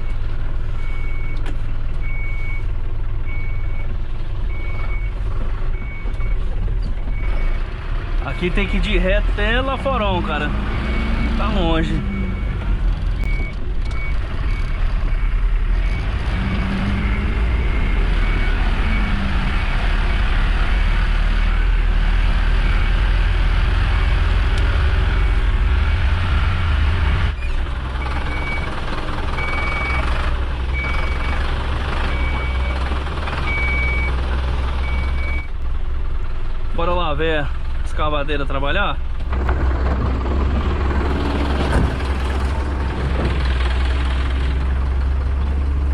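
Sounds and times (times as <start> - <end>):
diesel truck engine rumbling: 0.0 - 45.9.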